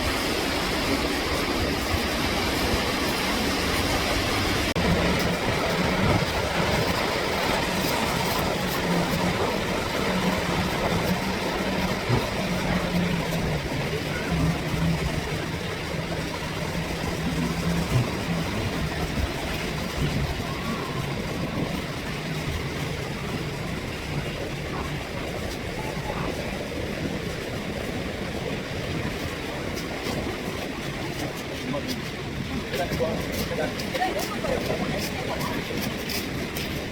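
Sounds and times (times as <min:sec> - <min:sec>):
low engine hum: 0:00.0 - 0:36.9
surf on a beach: 0:00.0 - 0:36.9
wind: 0:00.0 - 0:36.9.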